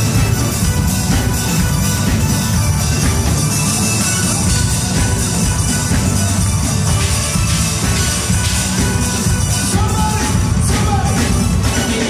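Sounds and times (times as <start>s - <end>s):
drum kit: 0.0s - 12.0s
keyboards: 0.0s - 12.0s.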